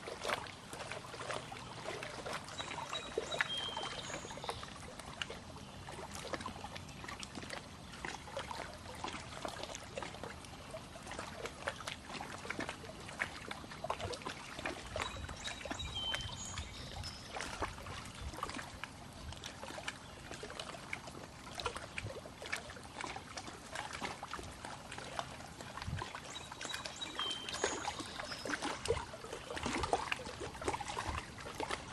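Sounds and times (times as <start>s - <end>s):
water lapping at shore: 0.0s - 31.9s.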